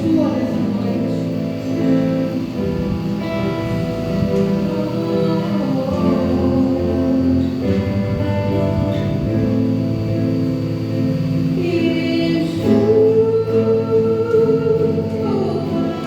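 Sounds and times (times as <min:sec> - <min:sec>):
acoustic guitar: 0:00.0 - 0:16.0
held melody notes: 0:00.0 - 0:16.0.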